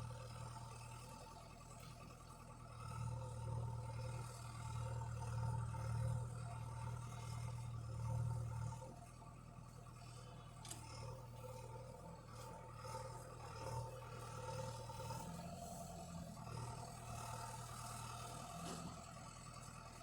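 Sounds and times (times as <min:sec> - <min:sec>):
distant tractor engine running: 0:00.0 - 0:20.0.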